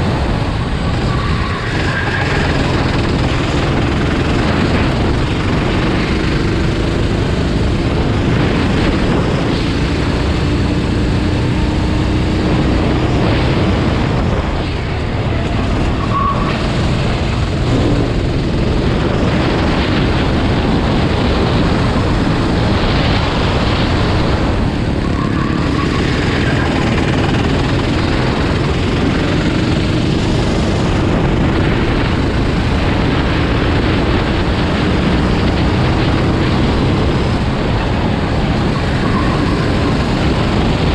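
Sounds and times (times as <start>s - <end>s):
racing engines running: 0.0s - 40.9s.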